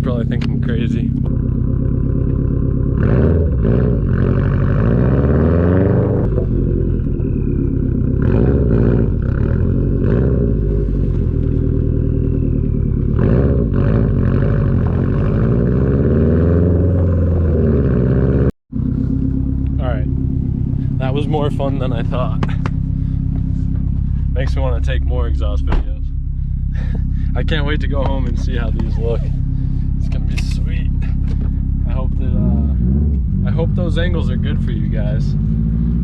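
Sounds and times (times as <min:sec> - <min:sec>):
car exhaust rumble revving: 0:00.0 - 0:36.0.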